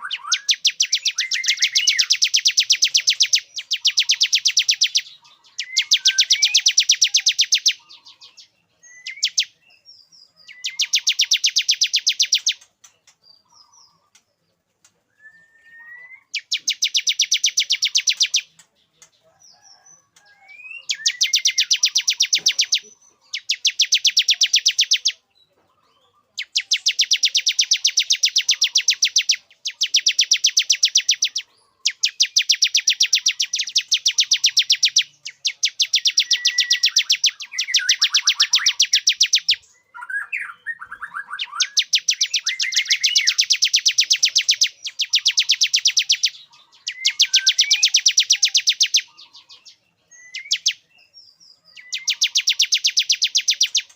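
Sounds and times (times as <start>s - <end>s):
bird singing rapid trills: 0.0s - 14.2s, 15.3s - 53.9s
soft bird chirps: 0.0s - 53.9s.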